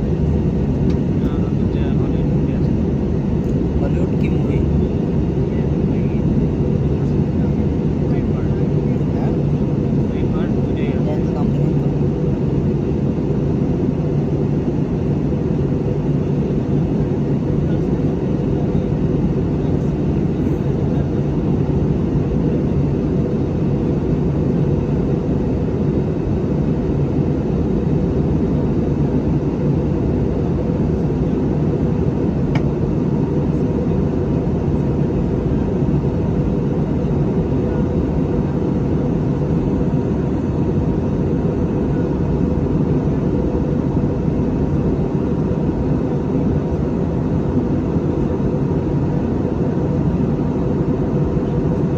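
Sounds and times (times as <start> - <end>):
airliner low rumble: 0.0 - 51.9
faint steady whine: 0.0 - 51.9.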